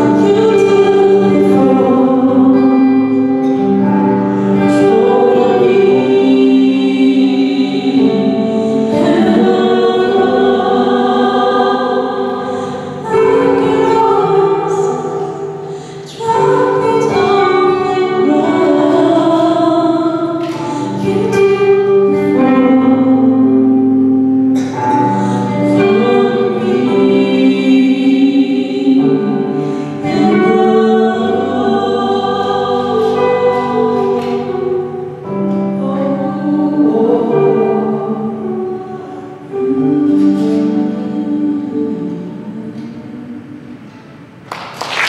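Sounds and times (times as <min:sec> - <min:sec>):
woman and man singing duet: 0:00.0 - 0:44.4.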